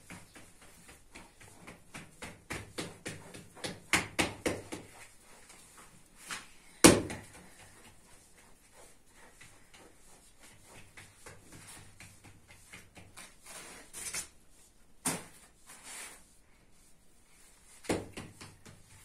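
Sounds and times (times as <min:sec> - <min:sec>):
hands slapping dough: 0:00.0 - 0:14.4, 0:15.0 - 0:15.6, 0:17.4 - 0:19.0.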